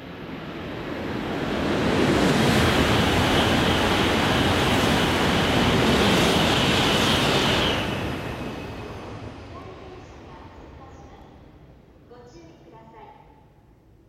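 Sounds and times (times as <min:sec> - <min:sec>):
train passing at speed: 0:00.0 - 0:12.1.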